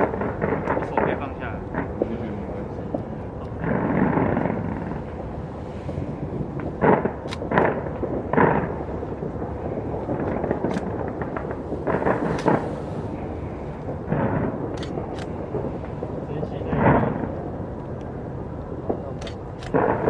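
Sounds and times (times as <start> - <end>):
loud firework bangs: 0.0 - 17.4
rumble of fireworks bursts: 0.0 - 20.0.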